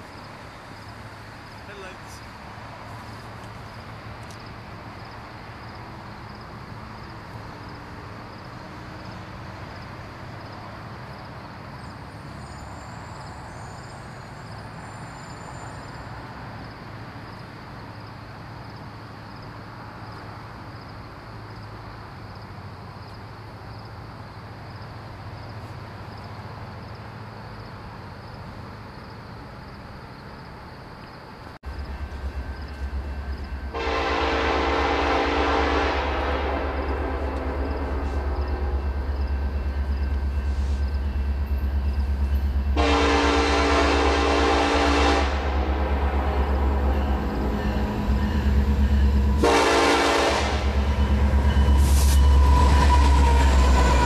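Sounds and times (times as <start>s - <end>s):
distant diesel locomotives rumbling: 0.0s - 54.0s.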